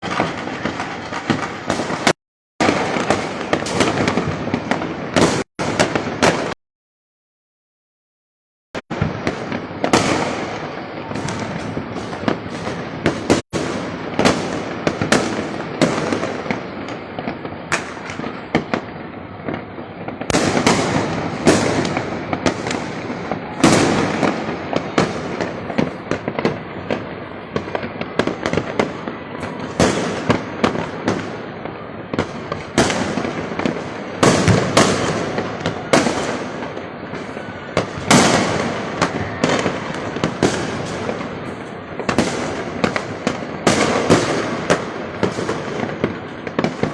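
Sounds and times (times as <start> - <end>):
firecrackers crackling: 0.0 - 6.6, 8.9 - 46.9
firework bangs: 0.0 - 6.6, 8.8 - 46.9.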